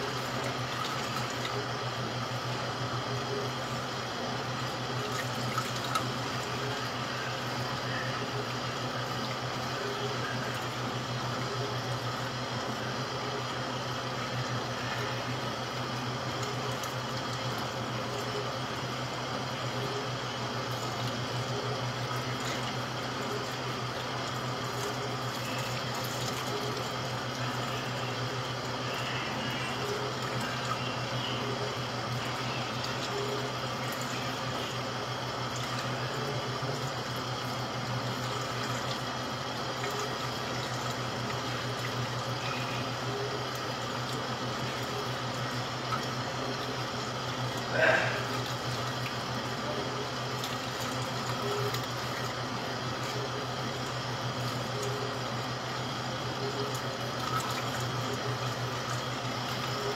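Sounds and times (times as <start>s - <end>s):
tap water running onto strainer: 0.0s - 59.9s.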